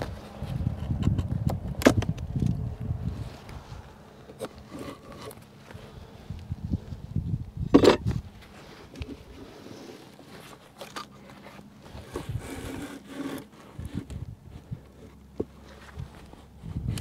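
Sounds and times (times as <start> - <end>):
rubbing and scraping of wooden parts: 0.0 - 6.0, 7.7 - 17.0.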